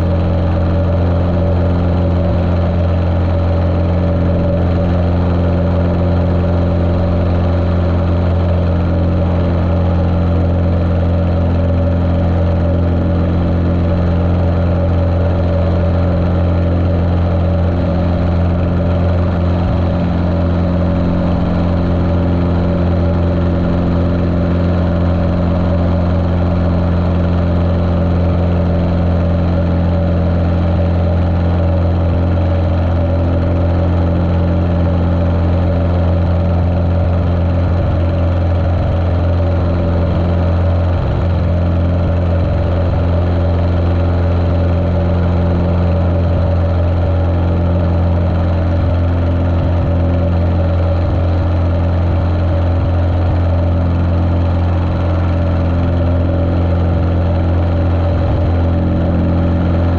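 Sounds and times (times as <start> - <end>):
muffled aircraft engine drone: 0.0 - 59.9.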